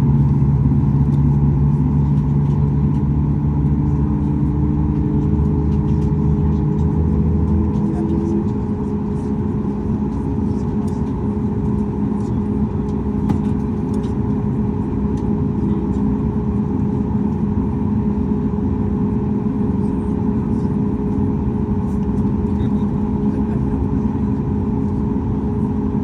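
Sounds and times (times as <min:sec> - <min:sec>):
jet engine rumble from cabin: 0:00.0 - 0:26.0.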